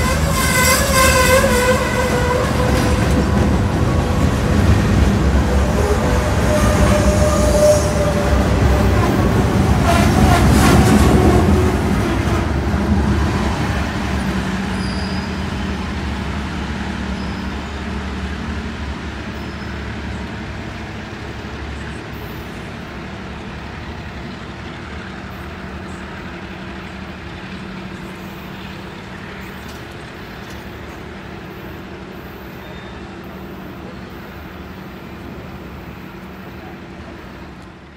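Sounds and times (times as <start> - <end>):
train cars rattling on rails: 0.0 - 37.9.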